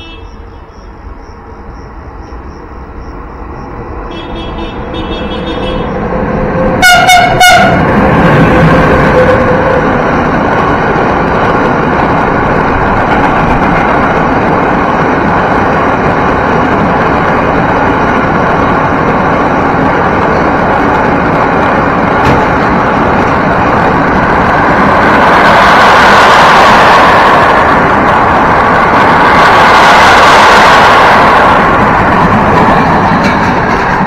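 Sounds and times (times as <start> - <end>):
train wheels rattling on rails: 0.0 - 34.0.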